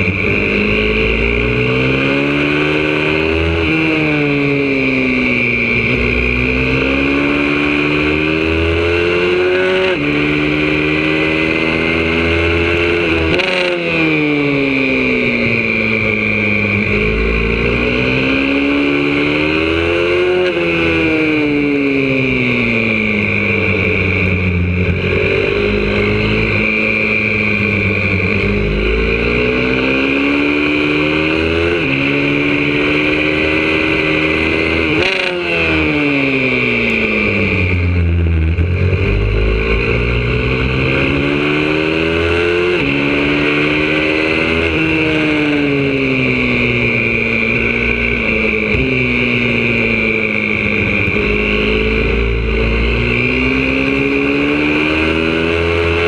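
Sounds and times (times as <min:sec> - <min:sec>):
pit bike engine at full throttle: 0:00.0 - 0:56.0.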